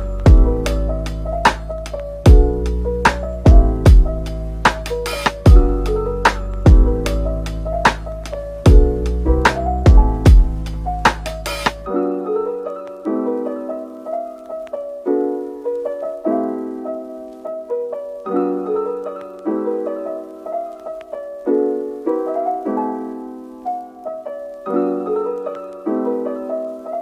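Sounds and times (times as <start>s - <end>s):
gentle piano piece: 0.0s - 27.0s.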